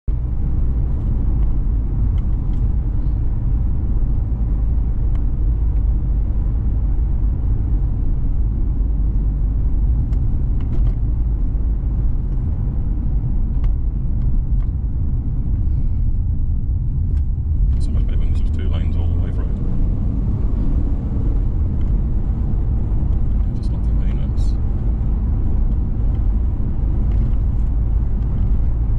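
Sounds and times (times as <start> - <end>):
car interior road rumble: 0.1 - 28.9.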